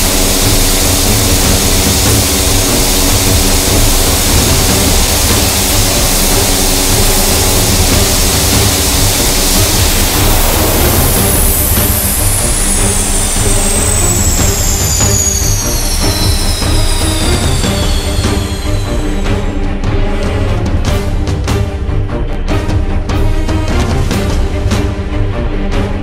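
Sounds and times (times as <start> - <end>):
high whine falling in pitch: 0.0 - 21.2
turboprop engine droning: 0.0 - 26.0.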